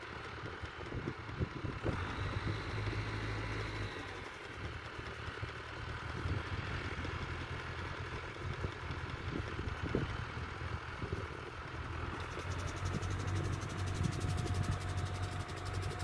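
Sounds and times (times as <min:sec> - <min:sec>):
distant tractor engine hum: 0:00.0 - 0:16.0.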